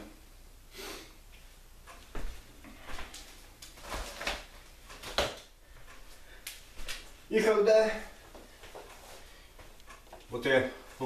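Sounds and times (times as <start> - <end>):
shuffling: 1.4 - 11.0.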